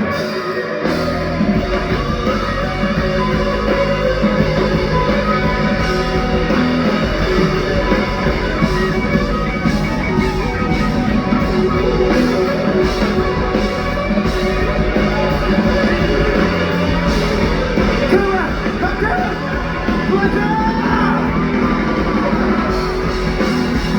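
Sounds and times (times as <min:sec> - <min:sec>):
electric guitar: 0:00.0 - 0:23.9
live rock band playing: 0:00.0 - 0:23.9.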